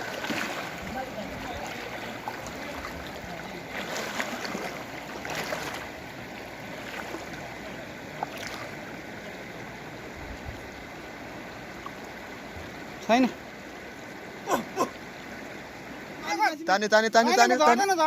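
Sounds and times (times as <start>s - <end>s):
river flowing over rocks: 0.0s - 16.3s.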